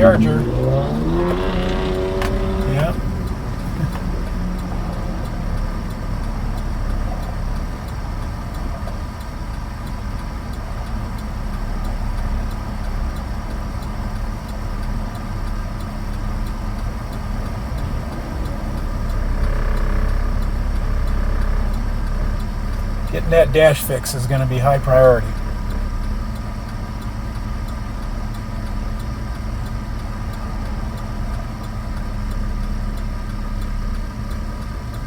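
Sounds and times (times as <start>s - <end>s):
pickup truck engine and road noise: 0.0s - 35.0s.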